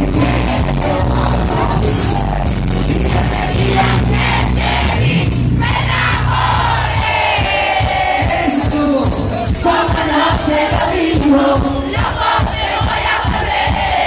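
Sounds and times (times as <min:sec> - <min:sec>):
crowd singing and shouting: 0:00.0 - 0:14.0
live band playing: 0:00.0 - 0:14.0
quick drum beat: 0:00.0 - 0:14.0.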